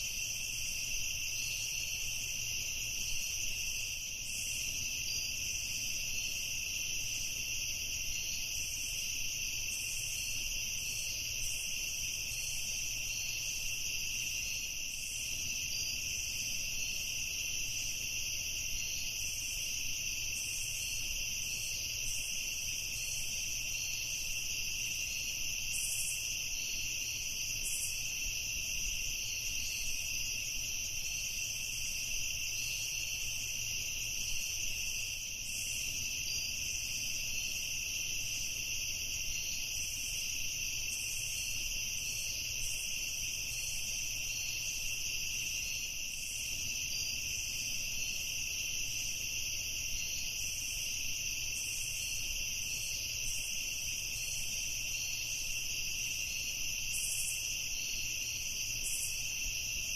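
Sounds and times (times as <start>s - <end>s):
crickets chirping trill: 0.0s - 59.9s.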